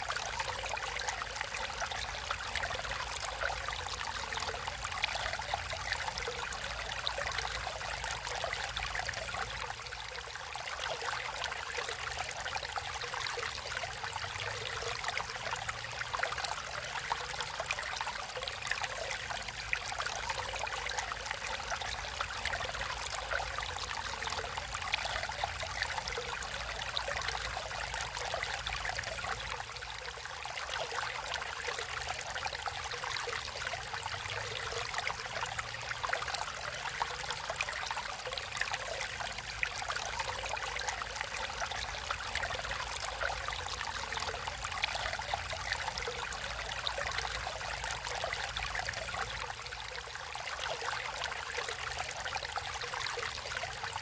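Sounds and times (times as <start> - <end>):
stream water babbling: 0.0 - 54.0.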